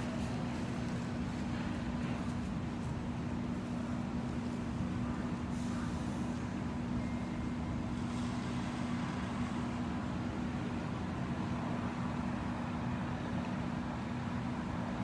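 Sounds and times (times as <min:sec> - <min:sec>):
fire engine running: 0:00.0 - 0:15.0.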